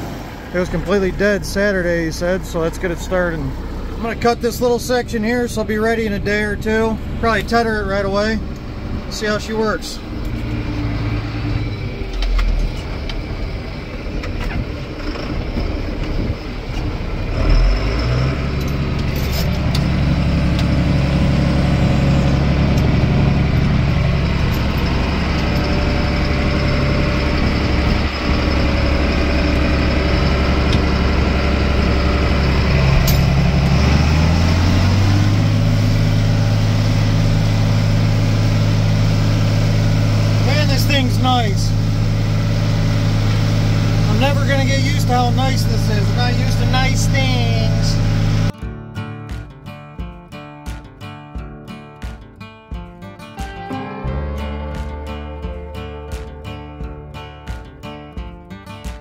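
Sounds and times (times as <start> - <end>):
tractor engine running: 0.0 - 48.7, 52.0 - 59.0.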